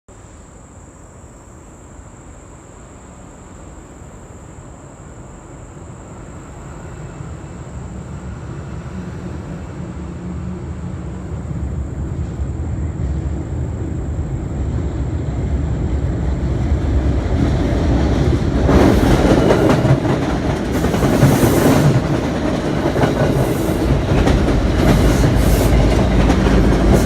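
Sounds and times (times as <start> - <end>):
train rumbling: 0.2 - 27.0.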